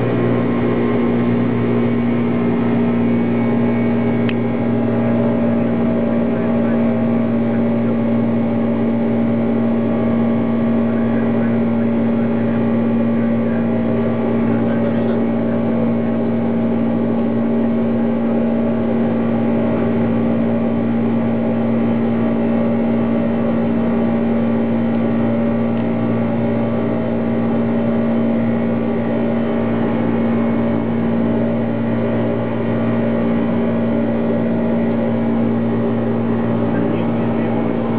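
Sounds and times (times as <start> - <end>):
airplane cockpit engine drone: 0.0 - 37.9.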